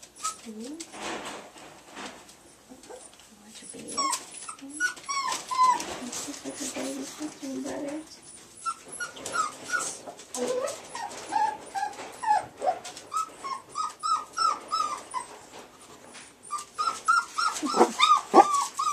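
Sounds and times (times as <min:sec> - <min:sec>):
puppies whimpering and squeaking: 0:00.0 - 0:00.8, 0:02.5 - 0:18.9.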